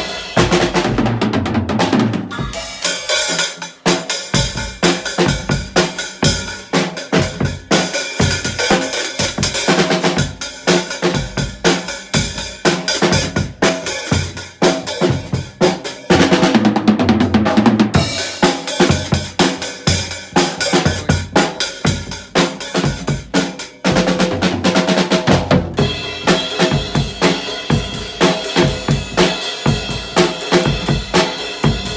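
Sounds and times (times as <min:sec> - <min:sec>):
drum kit played hard: 0:00.0 - 0:31.9.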